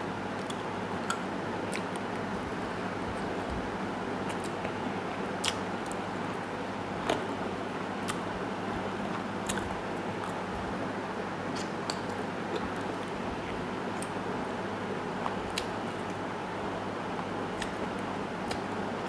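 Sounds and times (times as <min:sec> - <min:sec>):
fan-like hum: 0:00.0 - 0:19.0.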